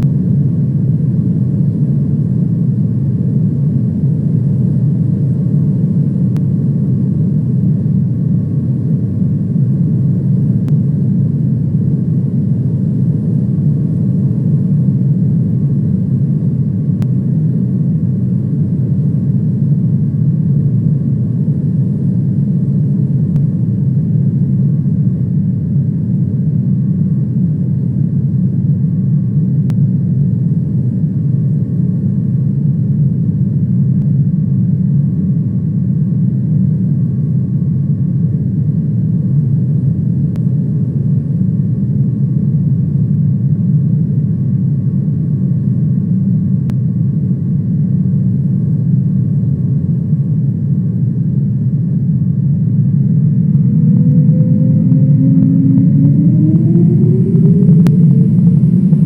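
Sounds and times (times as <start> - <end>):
airliner cabin drone: 0.0 - 59.0
faint steady whine: 0.0 - 59.0.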